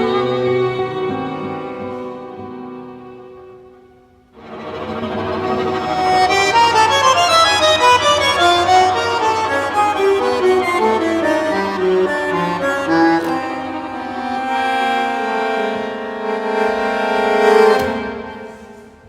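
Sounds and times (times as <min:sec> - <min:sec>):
bandoneon tango melody: 0:00.0 - 0:19.0.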